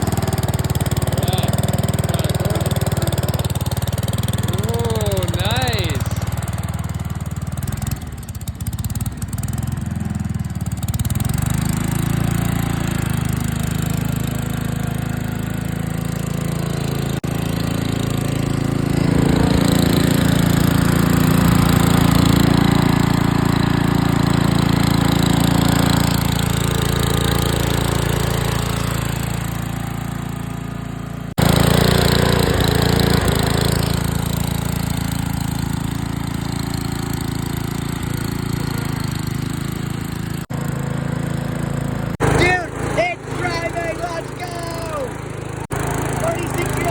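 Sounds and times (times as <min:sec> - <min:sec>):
riding lawn mower engine: 0:00.0 - 0:46.9.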